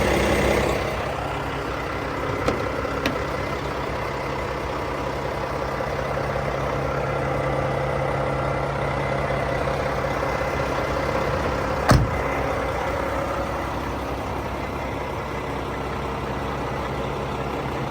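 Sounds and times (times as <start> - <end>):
diesel truck idling: 0.0 - 17.9.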